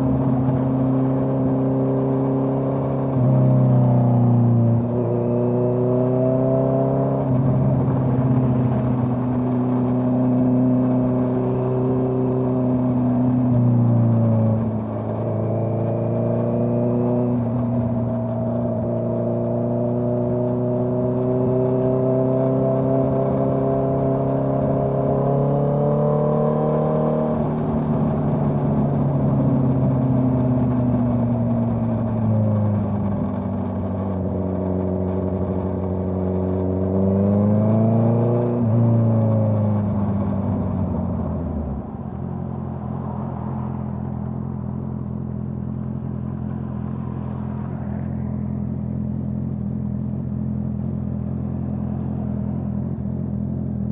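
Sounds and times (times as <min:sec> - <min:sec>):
motorcycle engine revving and idling: 0:00.0 - 0:53.9.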